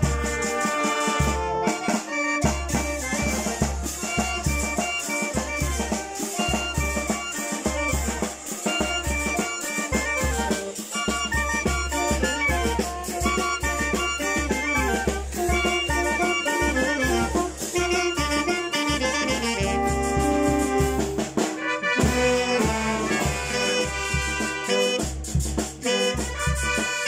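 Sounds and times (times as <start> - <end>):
brass band playing: 0.0 - 27.0
percussion with cymbal hits: 0.0 - 27.0.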